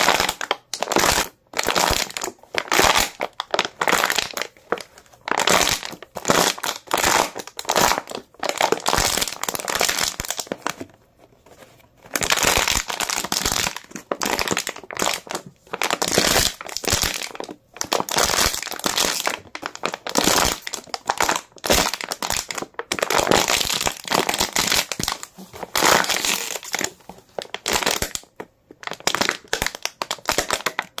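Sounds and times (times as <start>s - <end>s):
plastic bottle crinkling: 0.0s - 31.0s.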